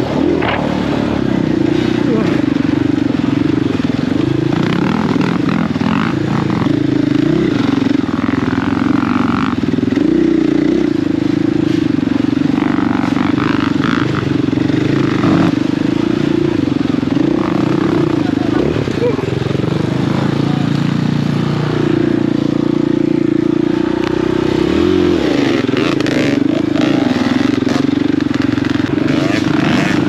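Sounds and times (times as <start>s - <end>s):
motorcycle engine revving under load: 0.0s - 30.0s.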